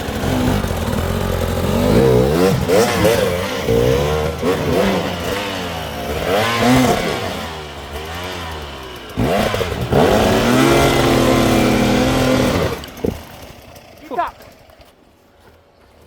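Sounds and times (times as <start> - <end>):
dirt bike engine revving: 0.0 - 14.8.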